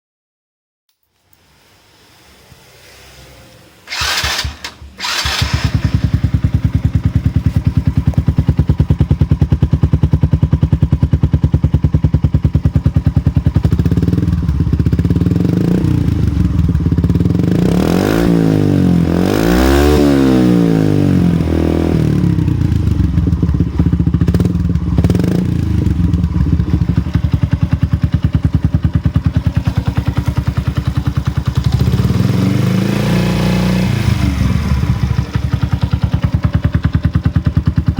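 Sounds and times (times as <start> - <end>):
small motorcycle engine idling and revving: 1.5 - 37.9.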